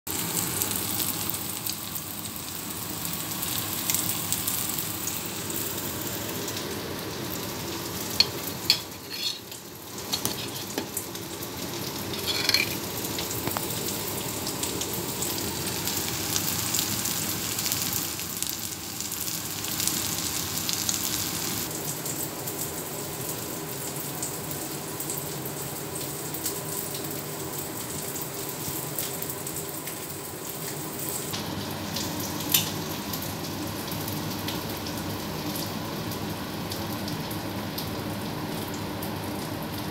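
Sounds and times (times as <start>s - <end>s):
patties sizzling in hot oil: 0.1s - 39.9s.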